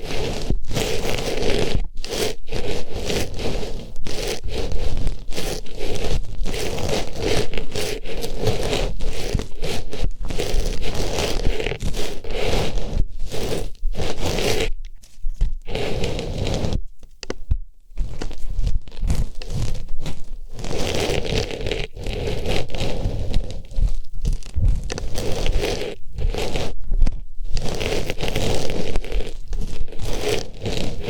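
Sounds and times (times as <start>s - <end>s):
artificial flower rustling in ear: 0.0s - 31.0s.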